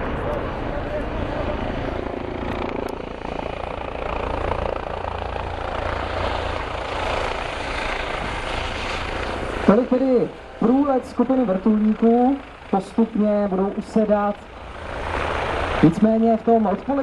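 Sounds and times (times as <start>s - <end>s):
helicopters flying past: 0.0s - 17.0s.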